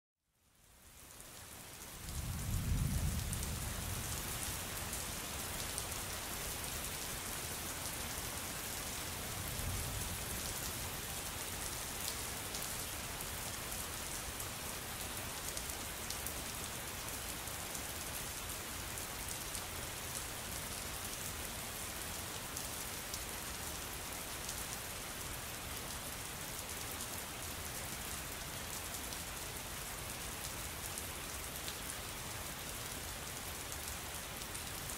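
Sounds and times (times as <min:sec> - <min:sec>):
steady rain pattering: 0:00.3 - 0:34.9.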